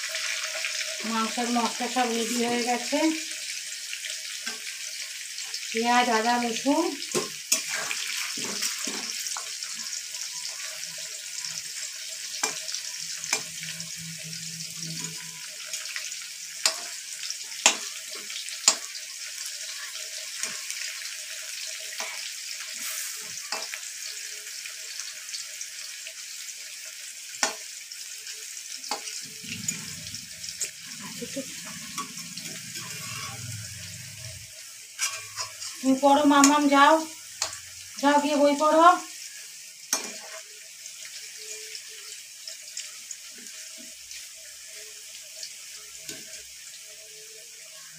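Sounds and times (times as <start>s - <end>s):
potatoes sizzling in oil: 0.0s - 47.9s
metal spatula scraping a pan: 7.0s - 25.1s, 27.4s - 47.9s.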